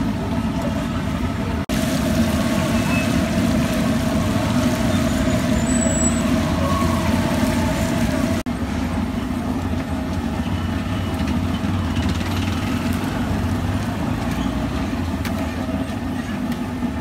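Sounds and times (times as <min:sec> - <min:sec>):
idling motor traffic drone: 0:00.0 - 0:17.0.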